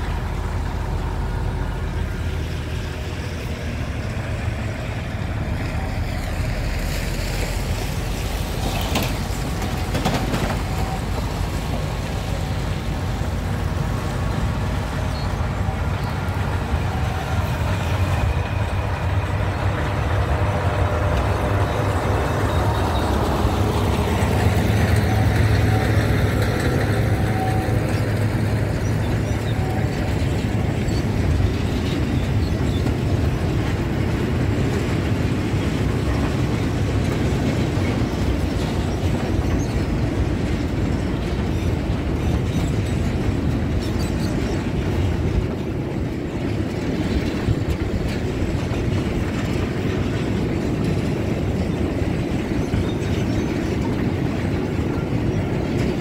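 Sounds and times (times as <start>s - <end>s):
diesel locomotive rumbling: 0.0s - 56.0s.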